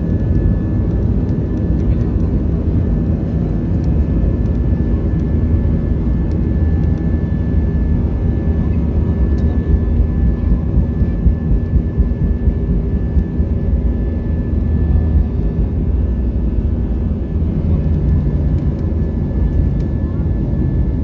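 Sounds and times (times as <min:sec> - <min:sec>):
jet engine rumble with high whine: 0:00.0 - 0:21.0.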